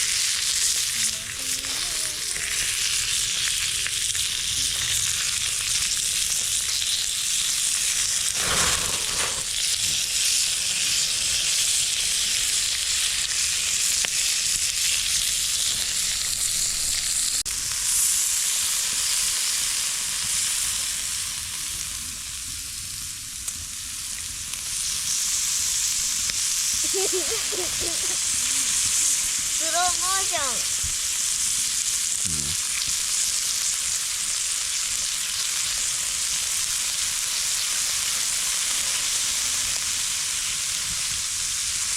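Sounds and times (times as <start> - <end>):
food sizzling in a hot pan: 0.0 - 41.9.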